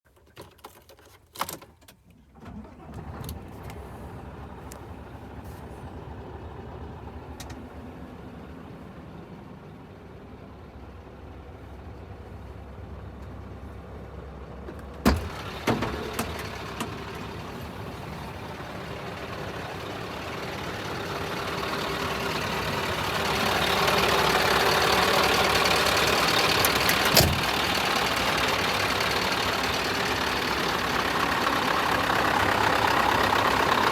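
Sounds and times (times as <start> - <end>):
diesel engine starting and idling: 2.2 - 33.9.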